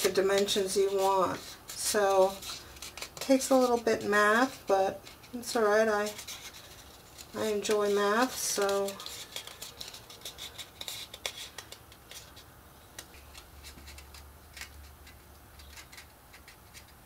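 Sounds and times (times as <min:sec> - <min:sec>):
chipboard rustling and crackling: 0:00.0 - 0:17.0.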